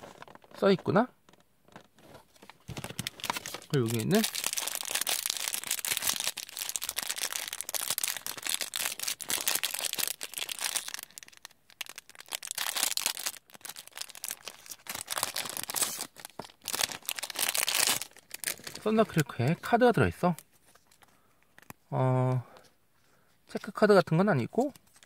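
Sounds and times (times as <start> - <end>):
plastic packaging crinkling: 0.0 - 21.8, 24.6 - 25.0.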